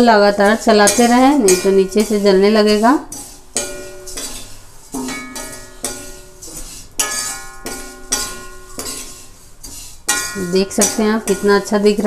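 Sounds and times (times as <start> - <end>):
metal spatula scraping a metal pan: 0.0 - 12.0.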